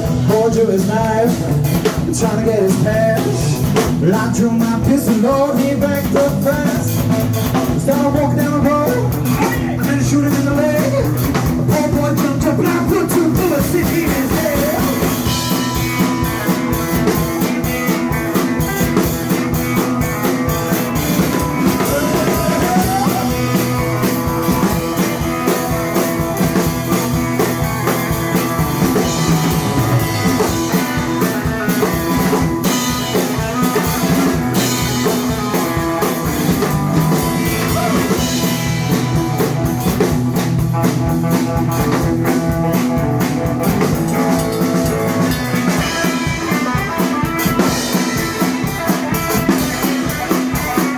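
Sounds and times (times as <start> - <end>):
bass: 0.0 - 50.9
drum kit: 0.0 - 50.9
electric guitar: 0.0 - 50.9.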